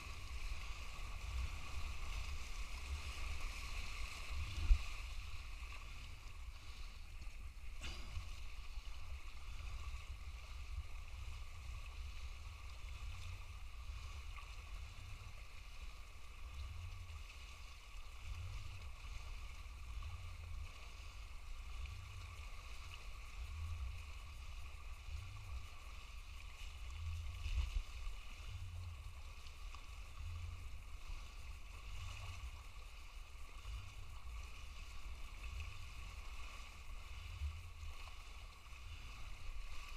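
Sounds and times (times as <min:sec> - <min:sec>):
faint steady high hiss: 0:00.0 - 0:39.9.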